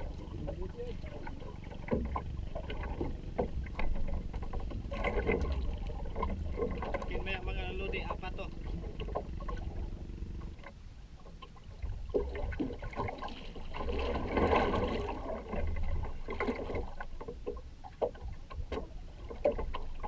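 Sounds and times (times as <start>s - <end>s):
splashing water: 0.0s - 9.9s, 11.3s - 20.0s
low rumble: 0.0s - 19.3s.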